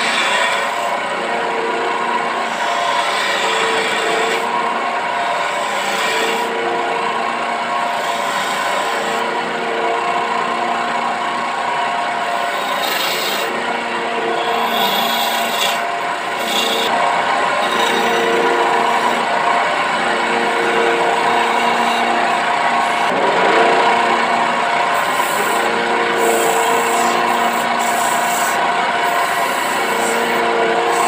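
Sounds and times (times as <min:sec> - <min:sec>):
tool scraping spinning wood: 0:00.0 - 0:31.0
wood lathe motor hum: 0:00.0 - 0:31.0.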